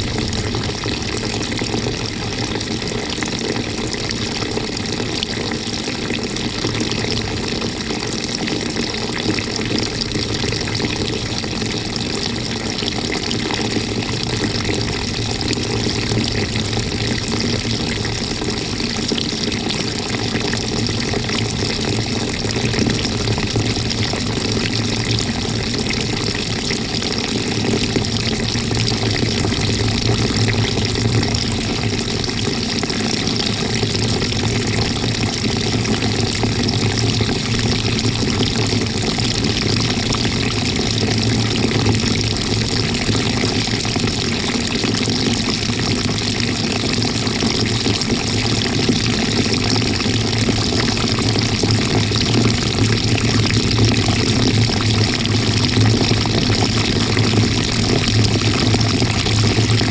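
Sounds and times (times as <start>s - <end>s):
steady low hum: 0.0s - 59.9s
water swirling in washing machine: 0.0s - 59.9s.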